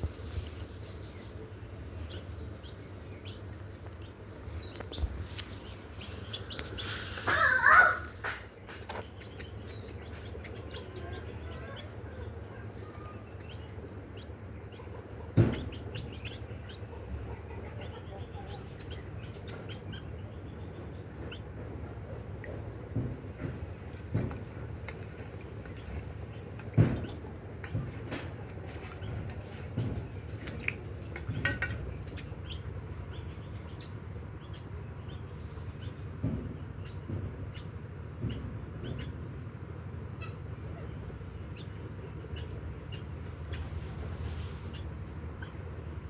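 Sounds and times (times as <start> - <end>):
low steady hum: 0.0 - 46.0
birds chirping: 0.4 - 46.0
steady low rumble: 8.1 - 46.0.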